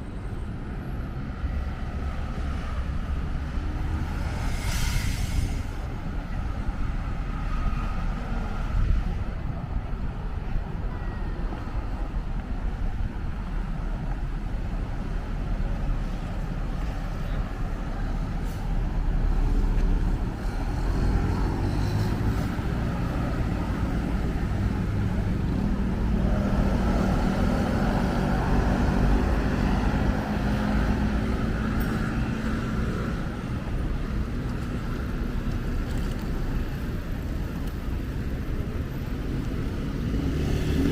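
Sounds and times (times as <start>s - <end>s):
road traffic rumbling: 0.0s - 40.9s.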